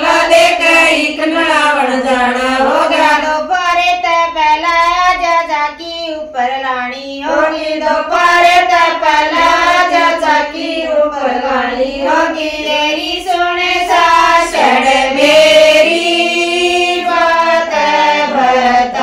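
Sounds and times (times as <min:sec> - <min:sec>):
women singing together: 0:00.0 - 0:19.0.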